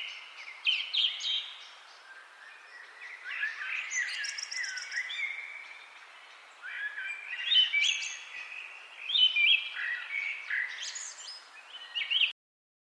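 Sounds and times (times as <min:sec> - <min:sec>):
songbirds chirping: 0:00.0 - 0:12.4.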